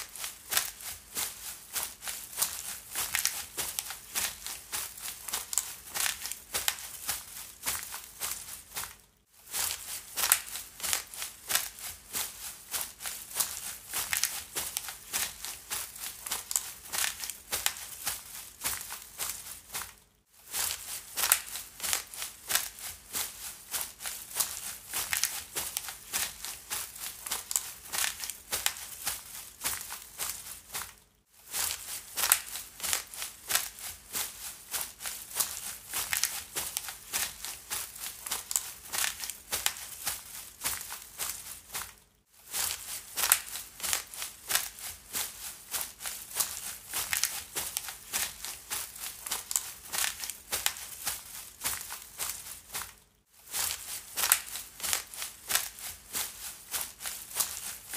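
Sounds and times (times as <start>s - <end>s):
footsteps crunching through dry leaves: 0.0s - 57.9s.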